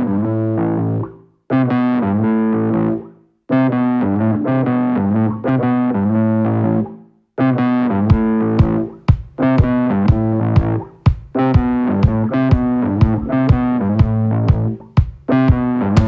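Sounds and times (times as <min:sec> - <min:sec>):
distorted electric guitar riff: 0:00.0 - 0:16.0.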